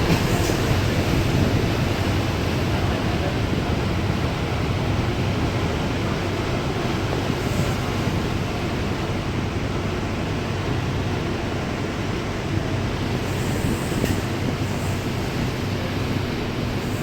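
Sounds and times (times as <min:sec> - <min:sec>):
ferry engines humming: 0:00.0 - 0:17.0.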